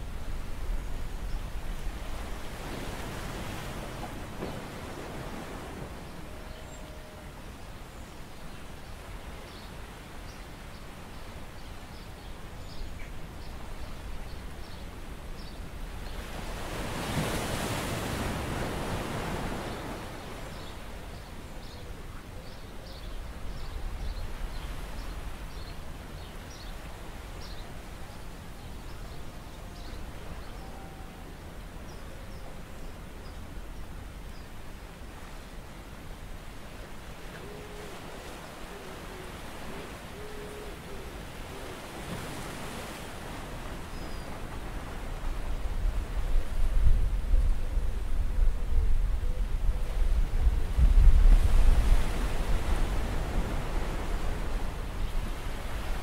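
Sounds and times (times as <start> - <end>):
wind and water noise: 0.0 - 56.0.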